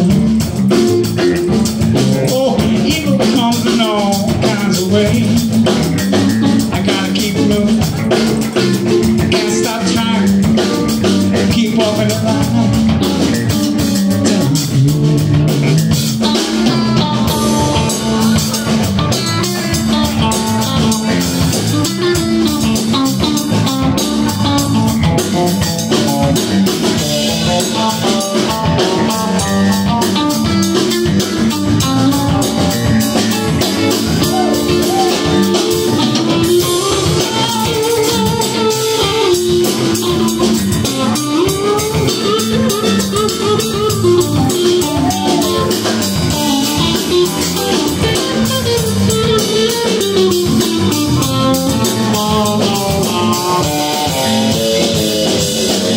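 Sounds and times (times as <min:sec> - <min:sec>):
drum kit: 0:00.0 - 0:55.9
electric bass: 0:00.0 - 0:55.9
electric guitar lead: 0:00.0 - 0:55.9.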